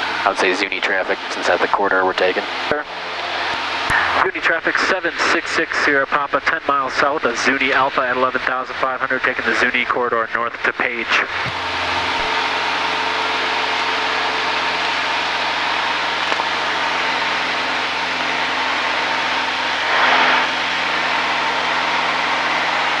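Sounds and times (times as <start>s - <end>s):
aircraft engine droning: 0.0s - 23.0s.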